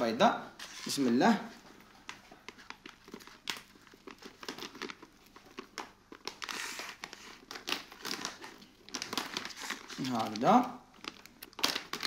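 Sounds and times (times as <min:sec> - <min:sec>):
paper pouch crinkling: 0:02.0 - 0:12.0.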